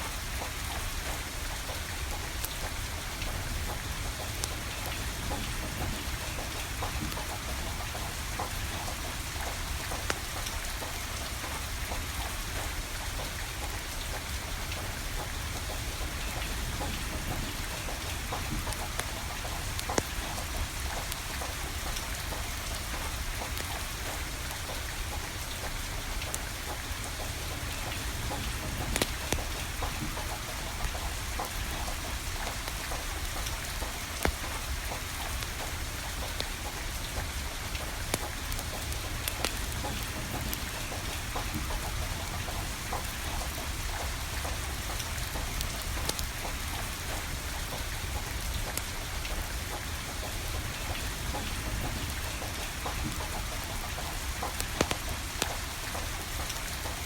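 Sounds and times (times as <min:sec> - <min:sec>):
steady rain falling: 0:00.0 - 0:57.0
wood fire popping and crackling: 0:00.2 - 0:57.0.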